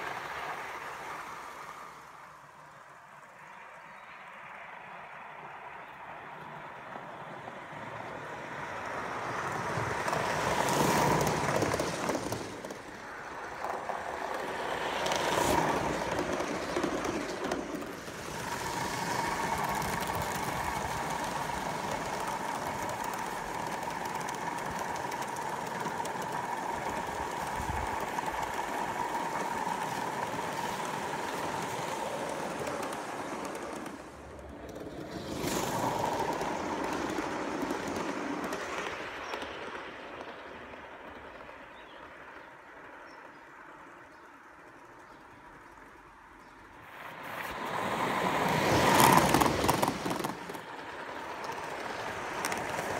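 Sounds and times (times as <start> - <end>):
wheels rolling on rails: 0.0 - 4.6, 5.8 - 52.9
model steam locomotive running: 6.3 - 52.9.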